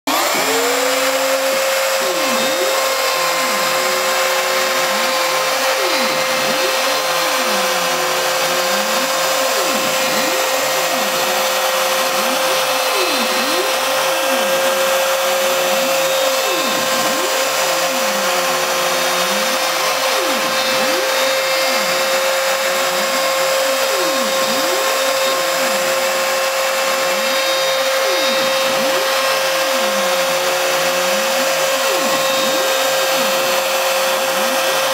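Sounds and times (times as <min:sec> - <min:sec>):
cnc router cutting wood: 0:00.0 - 0:34.9.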